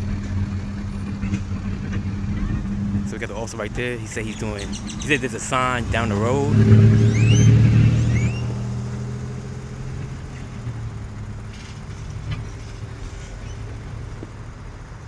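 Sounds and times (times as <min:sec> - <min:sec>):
street background noise: 0:00.0 - 0:15.0
vehicle engine passing by: 0:00.0 - 0:15.0.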